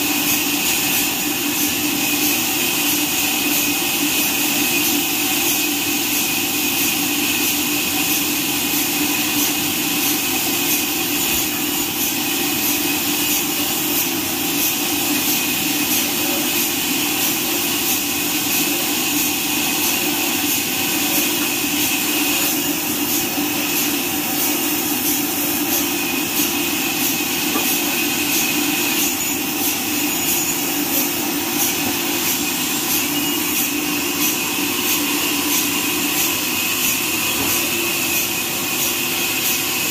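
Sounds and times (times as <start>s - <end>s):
band saw blade and motor running: 0.0s - 39.9s.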